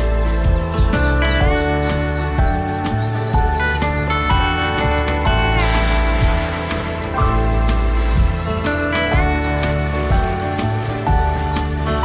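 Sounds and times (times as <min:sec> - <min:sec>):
bass line: 0:00.0 - 0:12.0
sliding guitar melody: 0:00.0 - 0:12.0.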